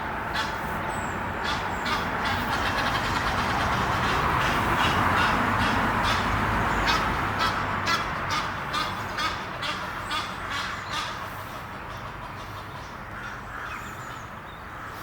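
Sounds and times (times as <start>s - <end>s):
geese honking: 0.3s - 0.8s, 1.4s - 13.9s.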